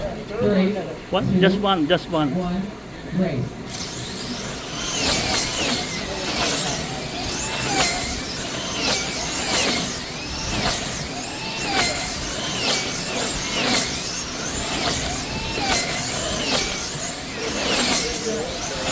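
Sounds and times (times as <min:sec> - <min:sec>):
slot car motors whining: 0:03.6 - 0:18.9.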